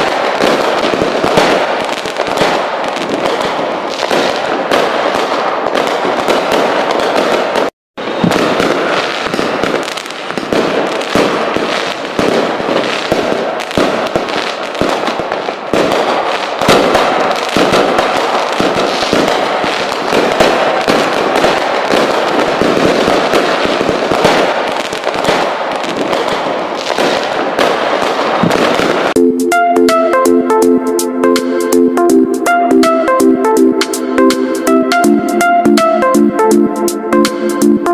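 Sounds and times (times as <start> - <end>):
fireworks bangs and crackles: 0.0 - 30.4.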